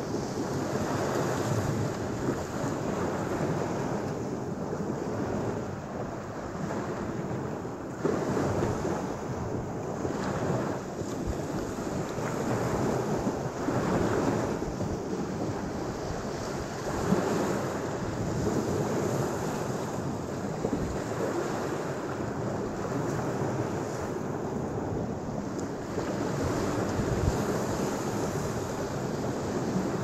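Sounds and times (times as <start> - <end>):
waves breaking on shore: 0.0 - 30.0
wind on microphone: 0.0 - 30.0.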